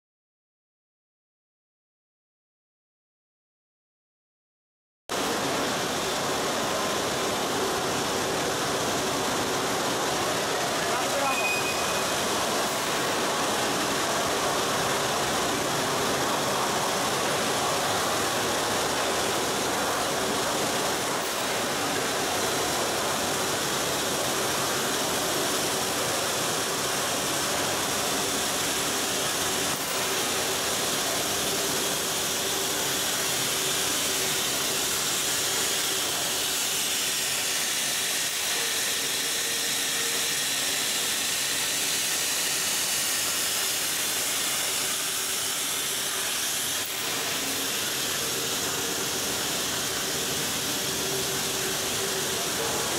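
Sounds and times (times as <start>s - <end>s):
dense machine noise: 5.1s - 52.9s
hiss: 10.5s - 52.9s.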